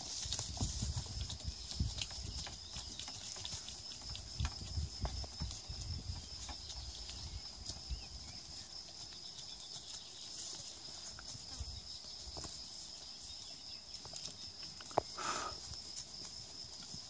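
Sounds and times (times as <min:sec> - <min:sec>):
hooves on dry grass and twigs: 0:00.0 - 0:17.0.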